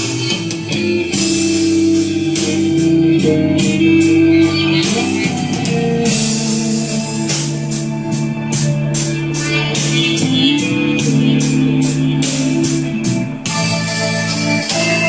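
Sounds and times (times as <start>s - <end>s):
song through a portable speaker: 0.0s - 15.0s.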